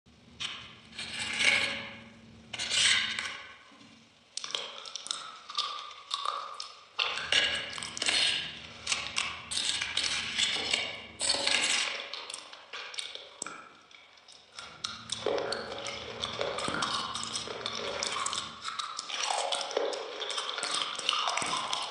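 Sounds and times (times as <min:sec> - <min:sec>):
biting and chewing dessert: 0:00.4 - 0:21.9.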